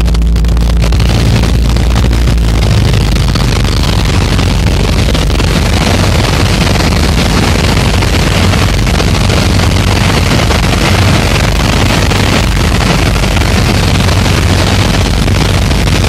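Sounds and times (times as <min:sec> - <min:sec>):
airplane engine and propeller droning: 0:00.0 - 0:16.0.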